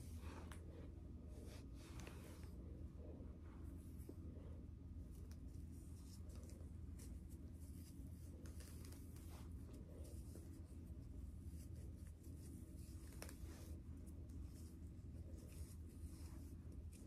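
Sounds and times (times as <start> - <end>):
hair rustling being braided: 0.0 - 17.0
low steady hum: 0.0 - 17.0.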